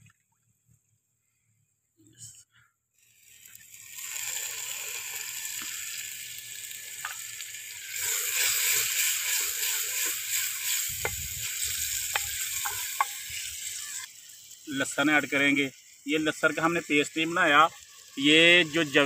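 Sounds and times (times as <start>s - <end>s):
tomatoes sizzling in hot oil: 3.0s - 19.0s.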